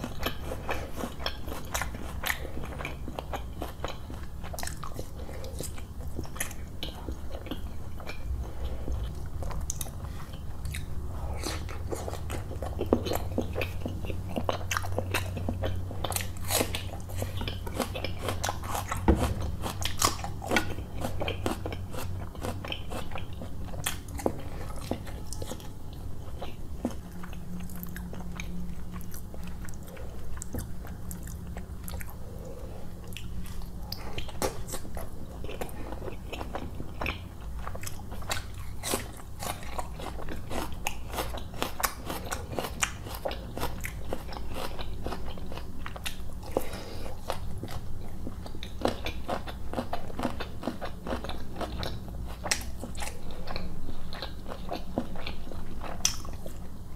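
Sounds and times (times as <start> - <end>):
close chewing and biting: 0.0 - 56.9
food crunching: 0.0 - 56.9.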